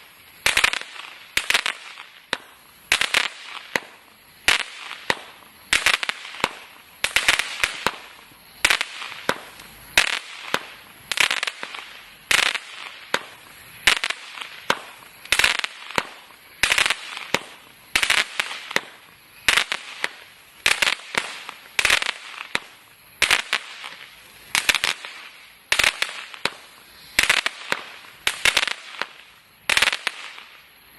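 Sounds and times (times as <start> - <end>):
dense firework crackling: 0.0 - 30.9
firework shots: 0.0 - 30.9.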